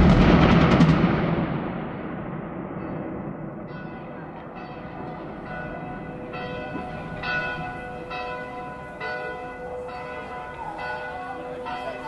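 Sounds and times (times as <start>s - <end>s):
church bell tolling: 2.0s - 12.0s.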